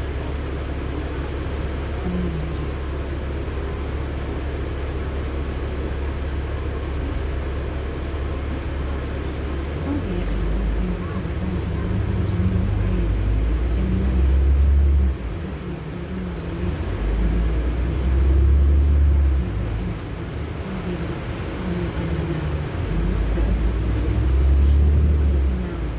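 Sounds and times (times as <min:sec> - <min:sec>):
bus engine hum: 0:00.0 - 0:25.9.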